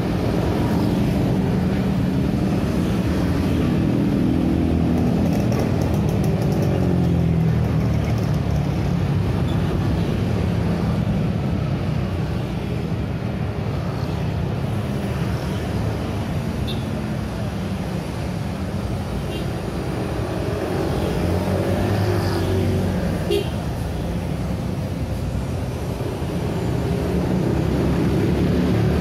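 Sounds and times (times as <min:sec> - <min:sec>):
motorcycles and cars driving past: 0:00.0 - 0:29.0.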